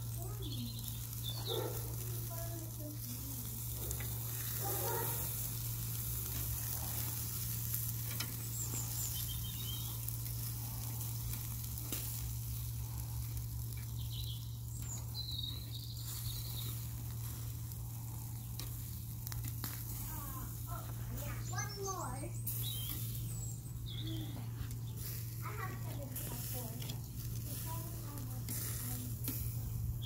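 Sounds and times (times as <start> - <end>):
meat sizzling on charcoal grill: 0.0 - 30.0.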